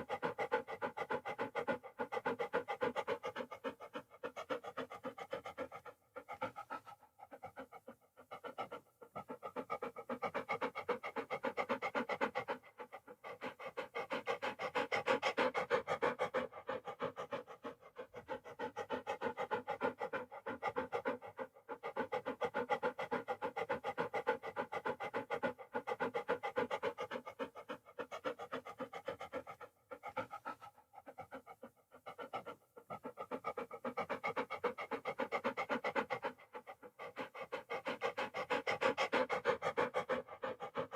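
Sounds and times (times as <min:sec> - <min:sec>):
dog panting: 0:00.0 - 0:40.9.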